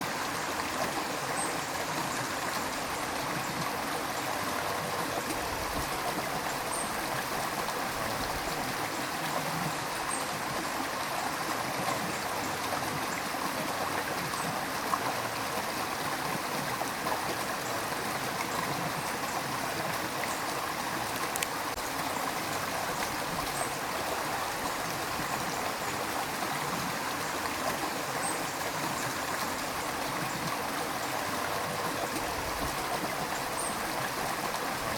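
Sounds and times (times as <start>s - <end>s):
river stream rushing: 0.0s - 34.9s.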